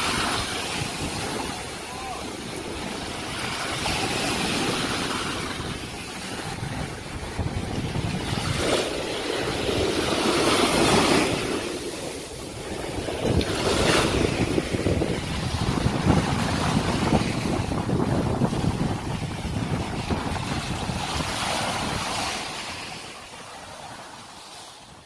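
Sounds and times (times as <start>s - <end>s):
surf washing on sand: 0.0s - 25.0s.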